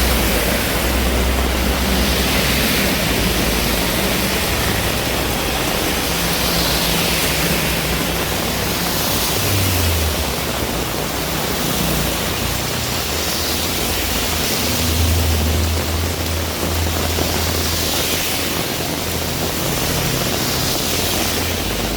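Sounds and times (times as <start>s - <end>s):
low rumble: 0.0s - 21.7s
heavy rain falling: 0.0s - 21.9s.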